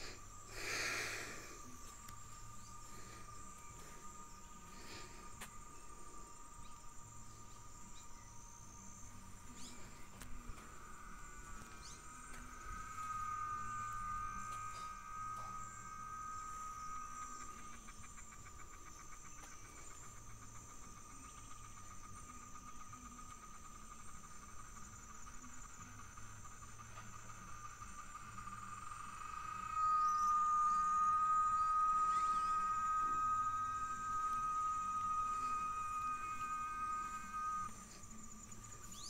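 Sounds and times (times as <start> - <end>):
cicadas droning: 0.0 - 39.0
fast pulsing cicada chirr: 0.0 - 39.0.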